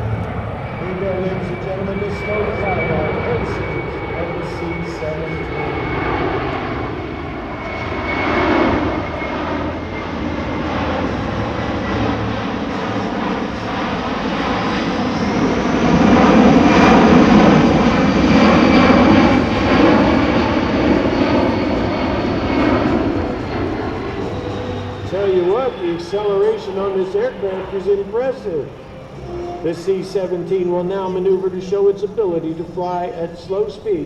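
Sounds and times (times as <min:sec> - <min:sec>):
jet aircraft flyby rumble: 0:00.0 - 0:34.0.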